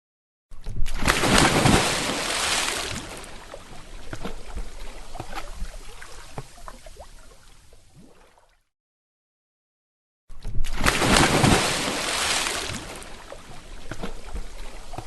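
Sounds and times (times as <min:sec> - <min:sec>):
water splashing and sloshing: 0:00.5 - 0:08.7, 0:10.3 - 0:15.0.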